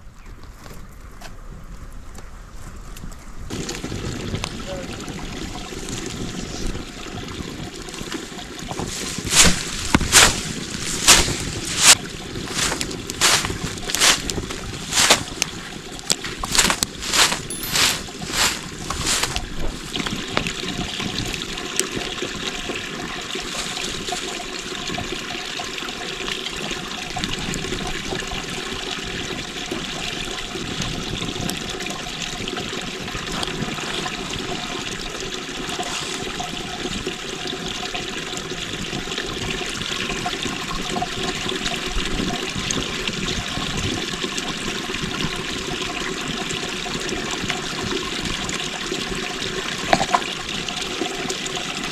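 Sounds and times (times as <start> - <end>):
water running and trickling: 4.2 - 51.9.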